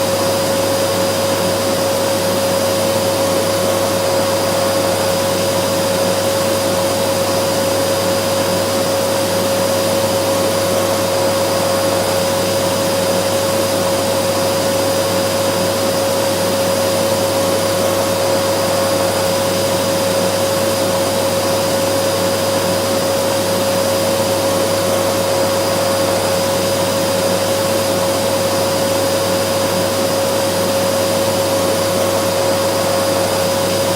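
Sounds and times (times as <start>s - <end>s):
vacuum cleaner motor running: 0.0s - 33.9s.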